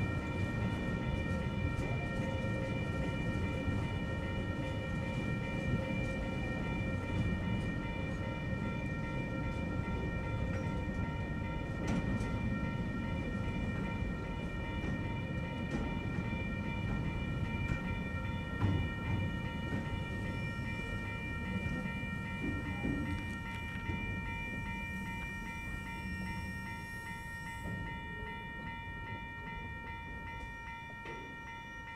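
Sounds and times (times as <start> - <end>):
freight train rumbling past: 0.0 - 31.4
level crossing warning bell: 0.0 - 31.9
train wheels clacking: 0.0 - 31.9.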